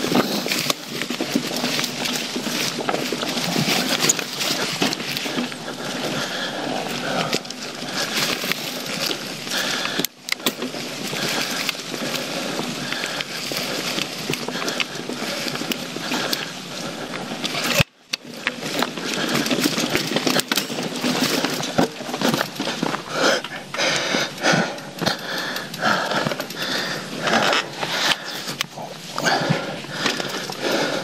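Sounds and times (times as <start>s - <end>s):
bike rattling over bumps: 0.0s - 31.0s
bike tyres rolling over dirt: 0.0s - 31.0s.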